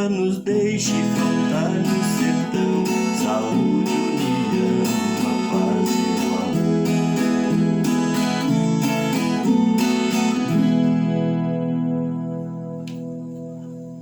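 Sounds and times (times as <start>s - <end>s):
strummed guitar chords: 0.0s - 14.0s.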